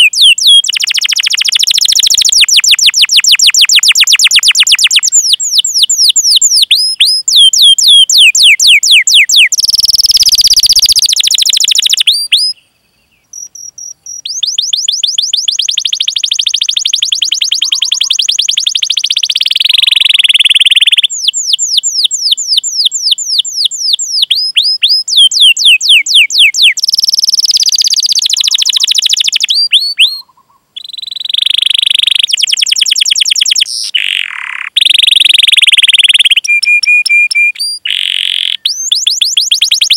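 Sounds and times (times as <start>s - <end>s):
canary chirps and trills: 0.0s - 39.9s.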